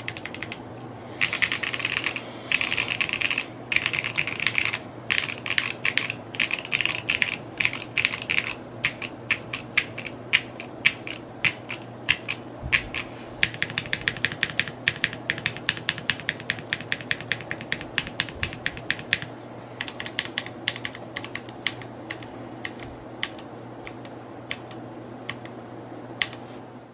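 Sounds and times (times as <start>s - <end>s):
mechanical keyboard typing: 0.0s - 0.6s, 1.2s - 25.5s, 26.2s - 26.4s.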